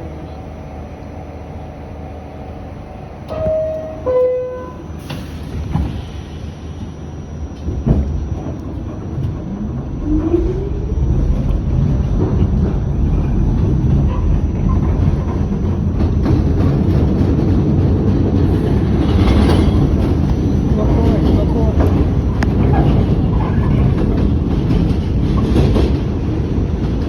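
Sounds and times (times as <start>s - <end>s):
wheels rumbling on rail: 0.0s - 27.0s
subway door closing chime: 2.7s - 25.8s.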